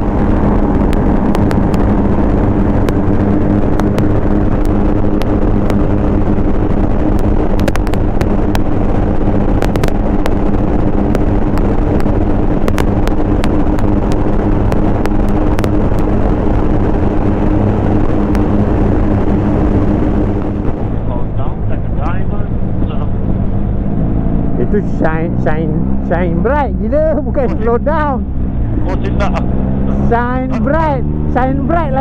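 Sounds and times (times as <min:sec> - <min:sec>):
vehicle engine and road drone: 0:00.0 - 0:32.0.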